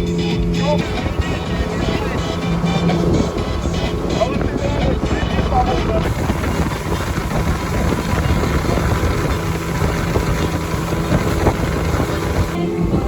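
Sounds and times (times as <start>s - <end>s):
outboard motor droning: 0.0s - 13.0s
wind buffeting microphone: 0.0s - 13.0s.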